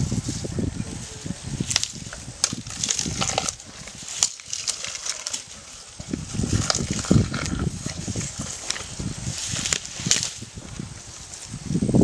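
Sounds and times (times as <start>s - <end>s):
elephant chewing grass: 0.0s - 11.7s
sharp crackles: 1.1s - 11.6s.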